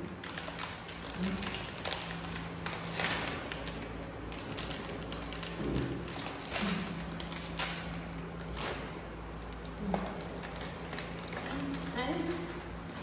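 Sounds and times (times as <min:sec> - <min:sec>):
plastic packet crinkling: 0:00.0 - 0:13.0.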